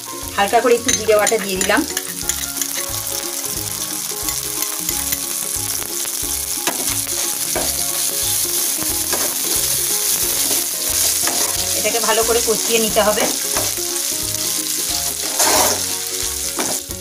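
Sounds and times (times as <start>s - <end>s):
food sizzling in hot oil: 0.0s - 17.0s
spatula stirring: 0.8s - 16.9s.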